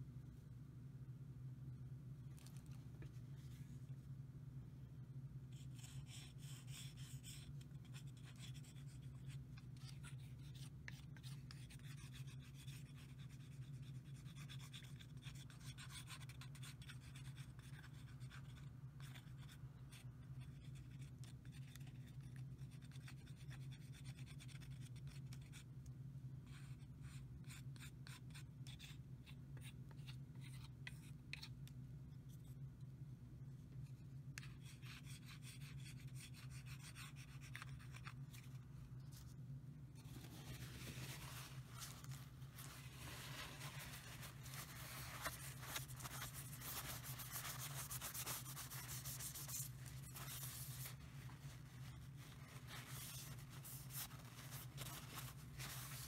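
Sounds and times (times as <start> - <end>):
steady low hum: 0.0 - 22.8, 25.2 - 56.0.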